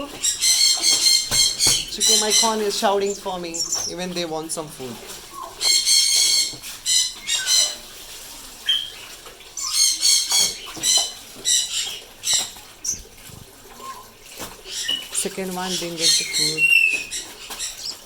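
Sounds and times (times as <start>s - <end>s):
bird chicks begging calls: 0.0s - 7.9s, 8.7s - 18.0s.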